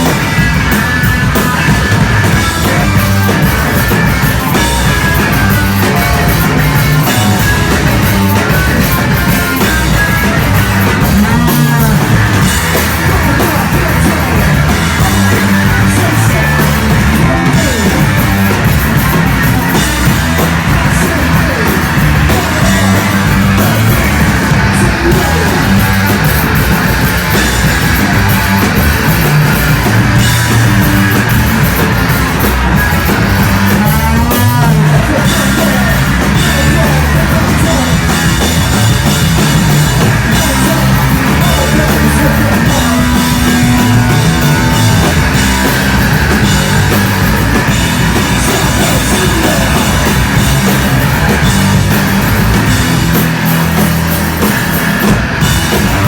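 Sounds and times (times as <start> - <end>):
punk rock band playing: 0.0 - 56.0.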